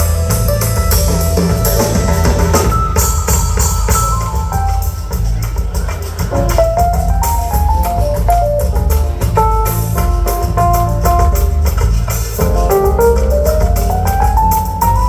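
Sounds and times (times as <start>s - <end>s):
live band playing: 0.0s - 15.0s
percussion hits: 0.0s - 15.0s.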